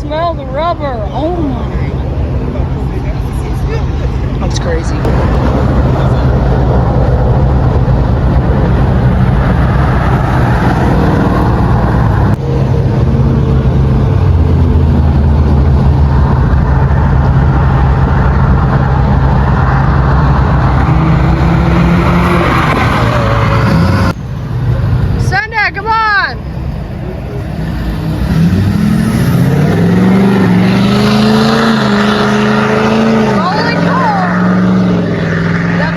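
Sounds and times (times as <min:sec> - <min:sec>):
car engine droning: 0:00.0 - 0:35.9.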